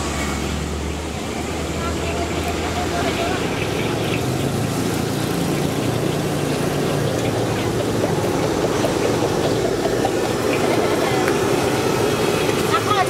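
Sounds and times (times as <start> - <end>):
passing road traffic: 0.0 - 13.0
wok burner roaring: 0.0 - 13.0.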